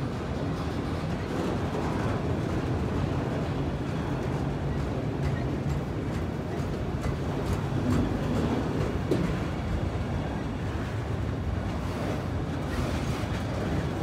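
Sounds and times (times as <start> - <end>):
freight cars rumbling on rails: 0.0 - 14.0.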